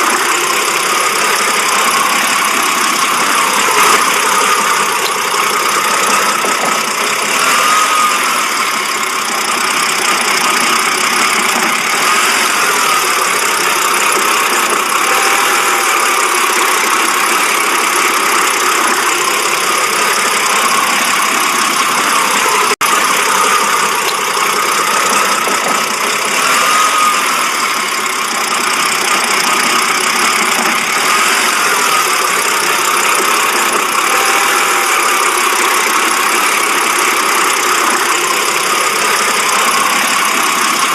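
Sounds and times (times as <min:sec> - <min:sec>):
car engine idling roughly: 0:00.0 - 0:40.9.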